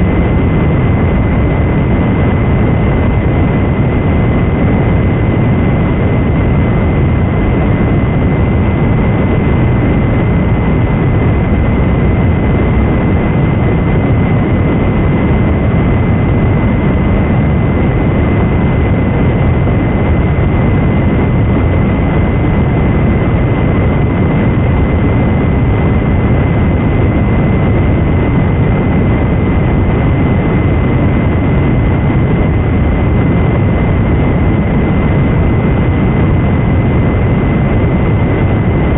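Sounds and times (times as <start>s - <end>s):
loud static noise: 0.0s - 38.9s.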